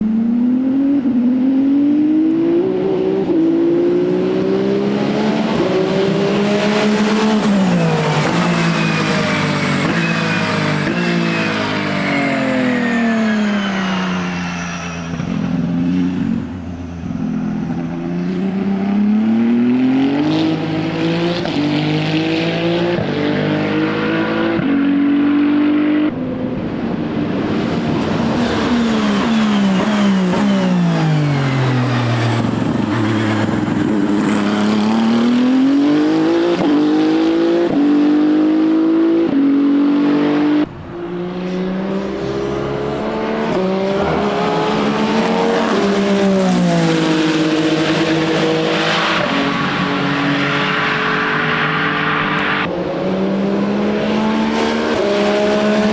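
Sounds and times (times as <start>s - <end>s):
racing car engine revving: 0.0s - 55.9s.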